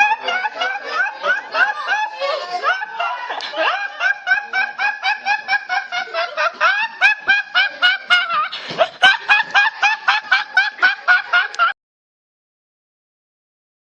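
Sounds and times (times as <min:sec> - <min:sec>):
cartoon snickering laugh: 0:00.0 - 0:11.8.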